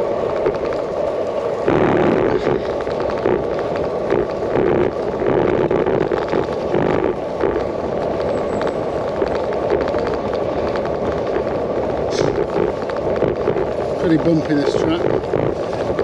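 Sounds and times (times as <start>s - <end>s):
bicycle rattling over bumpy track: 0.0s - 16.0s
tyre rumble: 1.6s - 16.0s.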